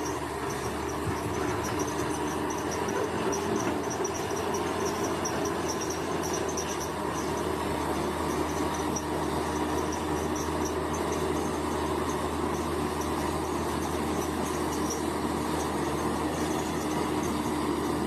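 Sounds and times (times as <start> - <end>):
insects chirping: 0.0 - 17.8
bulldozer diesel engine running: 0.0 - 18.0.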